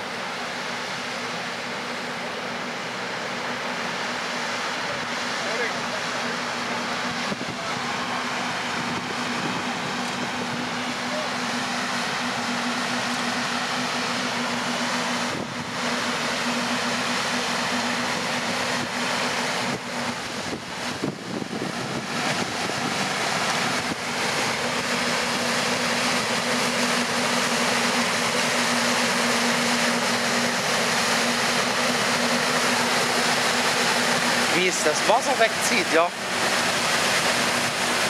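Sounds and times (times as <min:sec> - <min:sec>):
paddle wheels churning water: 0:00.0 - 0:38.0.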